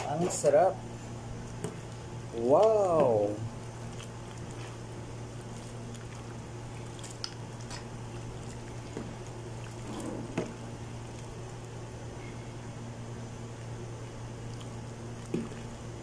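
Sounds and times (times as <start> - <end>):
steady low hum: 0.0 - 16.0
ladle stirring thick soup: 1.1 - 12.0, 13.5 - 16.0.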